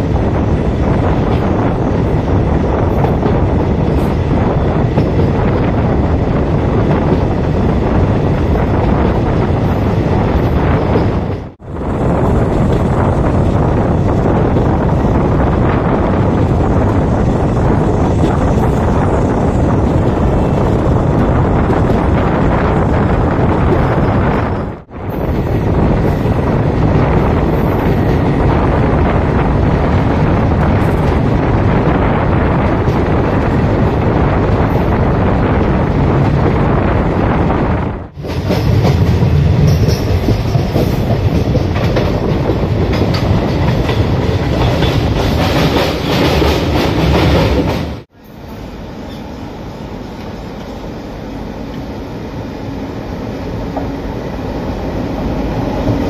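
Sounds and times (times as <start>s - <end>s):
wind buffeting microphone: 0.0s - 48.1s
train rumble: 0.0s - 56.0s.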